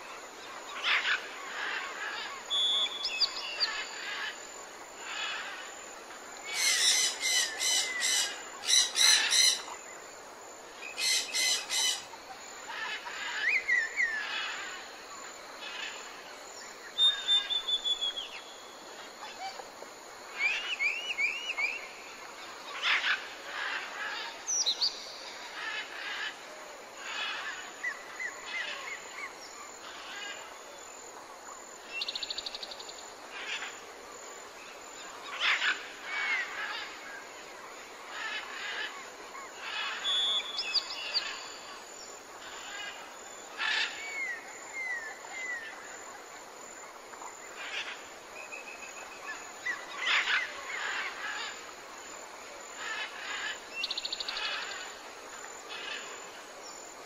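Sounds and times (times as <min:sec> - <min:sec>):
songbirds chirping and trilling: 0:00.0 - 0:57.0
steady background hiss: 0:00.0 - 0:57.0.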